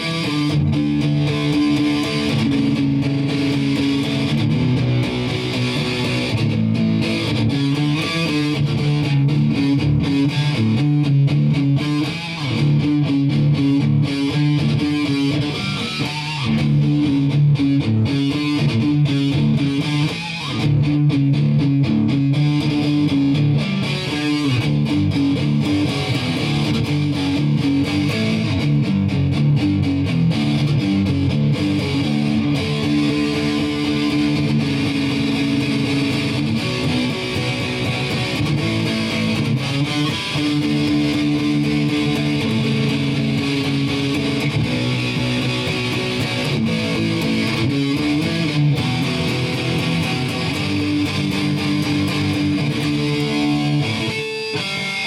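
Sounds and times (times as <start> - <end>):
electric guitar rock piece: 0.0 - 55.0.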